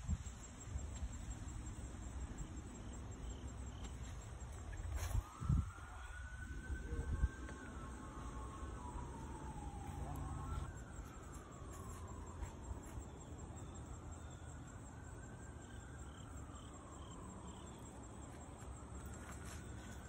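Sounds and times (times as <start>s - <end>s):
faint sliding whine: 0.2s - 20.0s.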